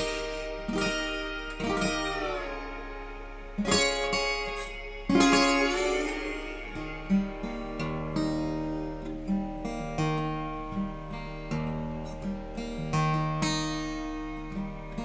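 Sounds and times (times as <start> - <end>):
guitar chords ringing: 0.0 - 15.0.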